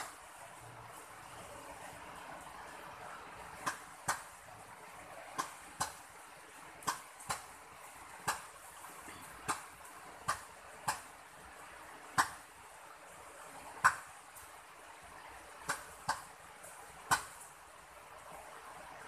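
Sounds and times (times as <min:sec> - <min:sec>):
light rain hiss: 0:00.0 - 0:19.0.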